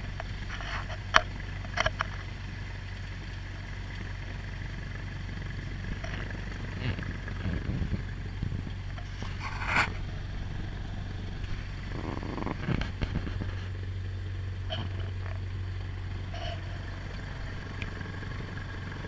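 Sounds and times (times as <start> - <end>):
sharp rattle: 0.0 - 2.5, 3.6 - 19.0
light aircraft engine droning: 0.0 - 19.0.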